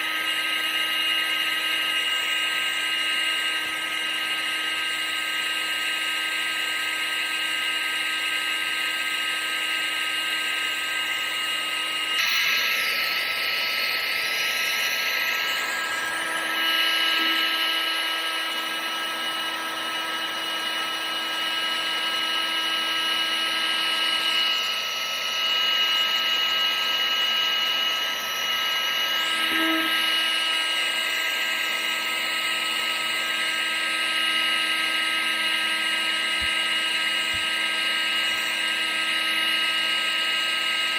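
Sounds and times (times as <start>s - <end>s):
appliance motor whine: 0.0s - 40.9s.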